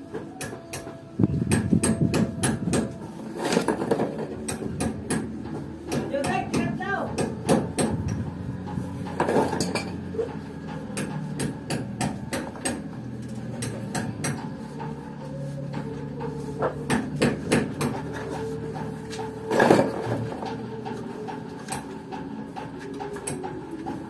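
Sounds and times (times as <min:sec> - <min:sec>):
hammer strikes: 0:00.2 - 0:08.3, 0:09.0 - 0:15.1, 0:15.8 - 0:18.1, 0:18.7 - 0:24.0.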